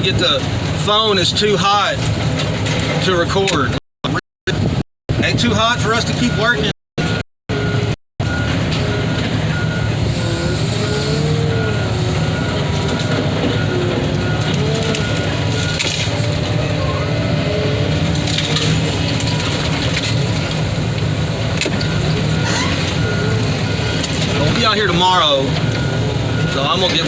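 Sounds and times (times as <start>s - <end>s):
excavator diesel engine running: 0.0s - 3.8s, 4.5s - 27.0s.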